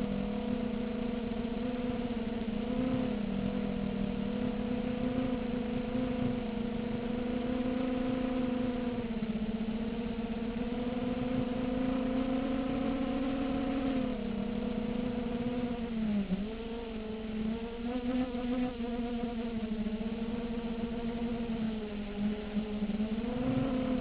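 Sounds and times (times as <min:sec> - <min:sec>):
quadcopter propellers buzzing: 0:00.0 - 0:21.5, 0:22.3 - 0:24.0.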